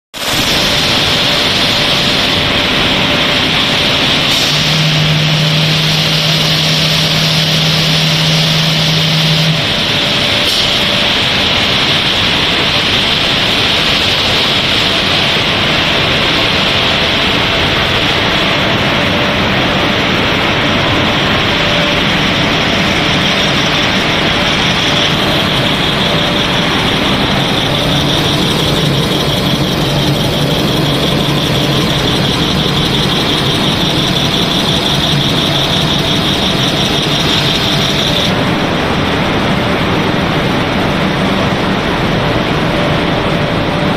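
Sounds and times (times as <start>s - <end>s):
extrusion machine noise with whine: 0.1s - 43.9s
low hum: 0.3s - 12.2s, 18.6s - 43.9s.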